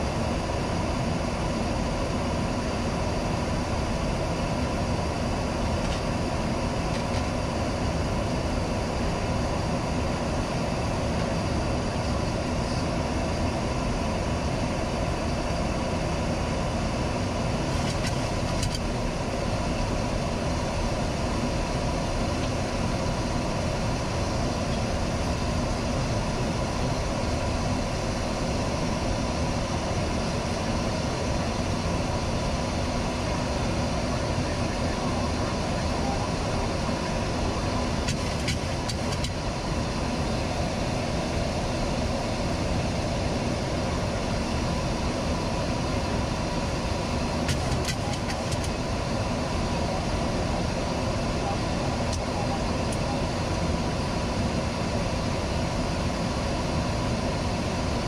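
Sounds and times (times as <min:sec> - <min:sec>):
aircraft engine hum: 0:00.0 - 0:58.0.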